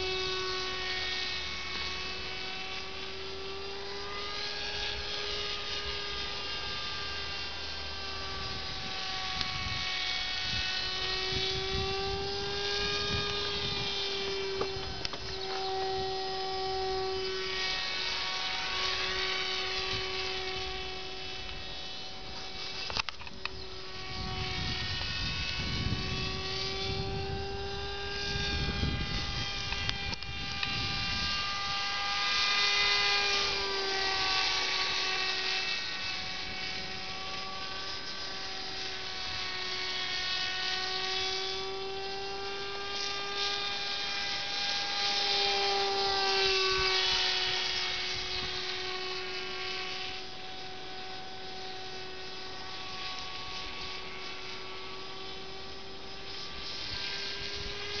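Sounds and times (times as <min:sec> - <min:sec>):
model airplane motor buzzing: 0:00.0 - 0:58.0.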